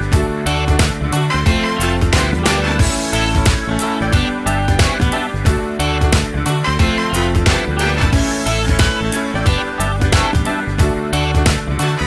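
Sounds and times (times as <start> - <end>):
upbeat instrumental with bass and guitar: 0.0 - 12.0.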